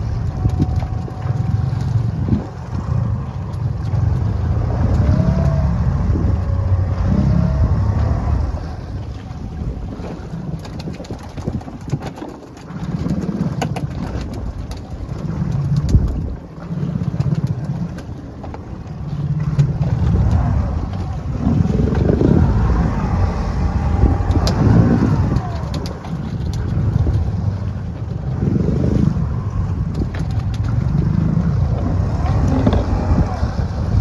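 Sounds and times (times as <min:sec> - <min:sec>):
boat motor running: 0:00.0 - 0:34.0
wind on microphone: 0:00.0 - 0:34.0.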